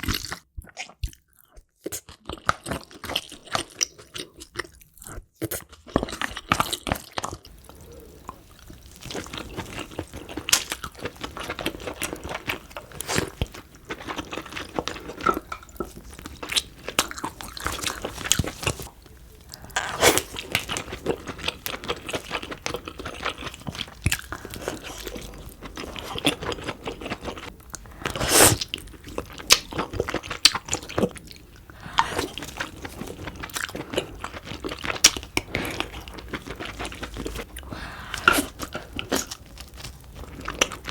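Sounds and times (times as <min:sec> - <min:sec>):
person chewing and crunching: 0:00.0 - 0:40.9.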